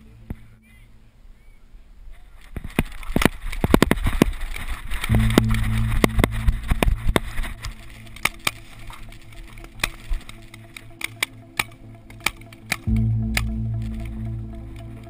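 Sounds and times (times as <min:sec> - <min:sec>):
low steady hum: 0:00.0 - 0:02.5, 0:04.4 - 0:15.0.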